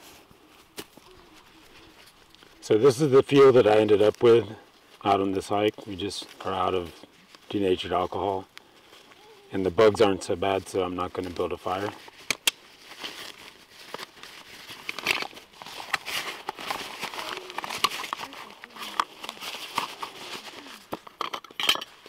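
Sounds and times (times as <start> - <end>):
nylon sack rustling and crinkling: 0.0 - 21.3.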